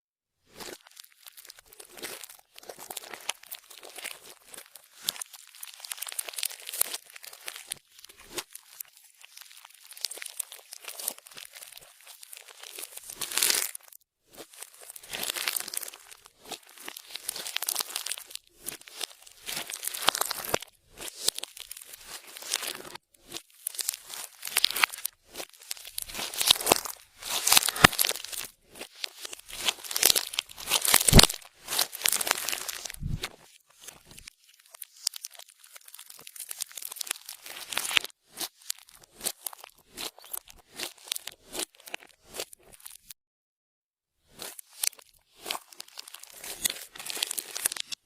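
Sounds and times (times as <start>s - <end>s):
slime squishing and crackling: 0.5s - 43.2s, 44.3s - 48.0s.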